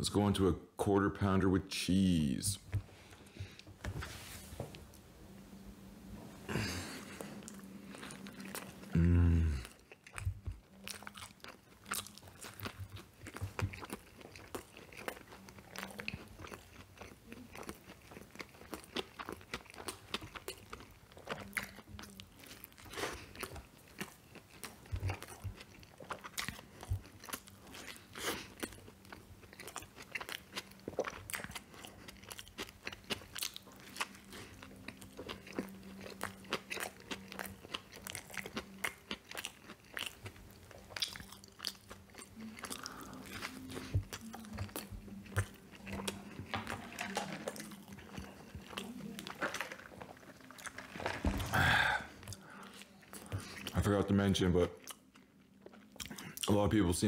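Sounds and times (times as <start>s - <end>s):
mouth chewing clicks and smacks: 9.6s - 51.0s, 52.1s - 56.6s.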